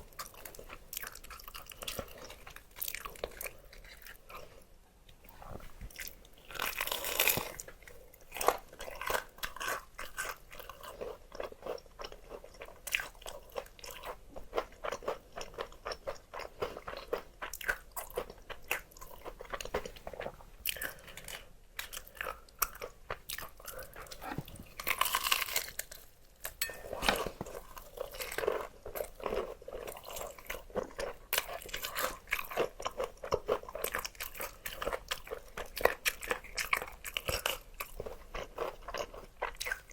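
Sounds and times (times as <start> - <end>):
crunchy chewing of fried chicken: 0.0 - 4.8, 5.4 - 39.9.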